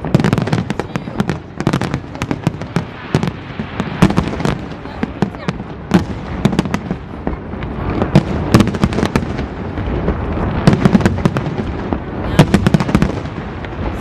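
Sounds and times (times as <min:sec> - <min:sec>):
firework shells cracking and banging: 0:00.0 - 0:14.0.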